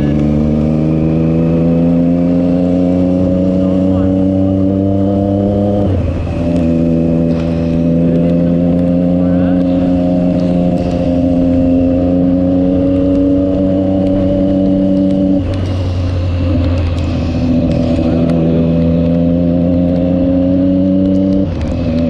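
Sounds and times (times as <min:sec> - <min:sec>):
motorcycle engine at road speed: 0:00.0 - 0:22.0.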